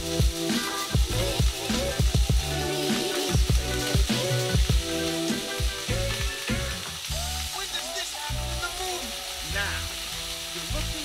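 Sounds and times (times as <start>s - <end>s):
background music: 0.0s - 11.0s
meat sizzling in a frying pan: 0.0s - 11.0s.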